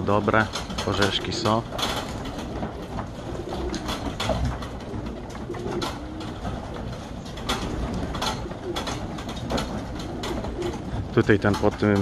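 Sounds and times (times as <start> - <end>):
wings flapping: 0.0 - 12.0
pigeons cooing: 0.5 - 11.7.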